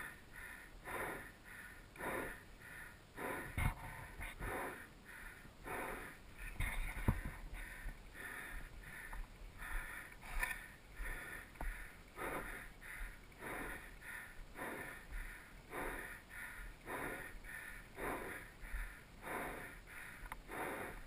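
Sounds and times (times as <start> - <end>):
man breathing hard: 0.0 - 21.0.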